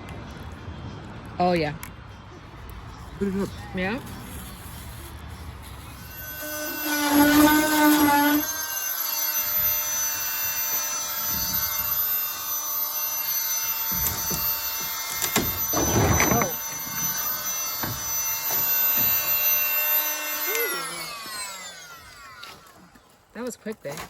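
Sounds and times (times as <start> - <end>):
circular saw cutting wood: 3.2 - 23.5.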